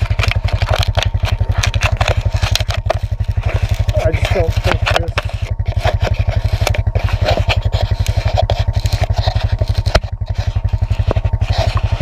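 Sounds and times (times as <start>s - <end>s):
atv engine running: 0.0s - 12.0s
knocks and rattles on rough trail: 0.0s - 12.0s.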